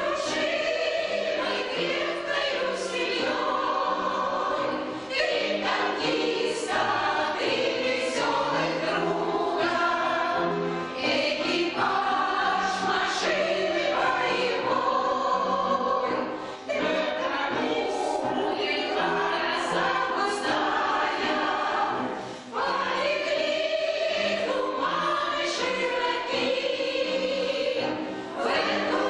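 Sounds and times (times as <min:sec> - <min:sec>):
choir singing: 0:00.0 - 0:29.0.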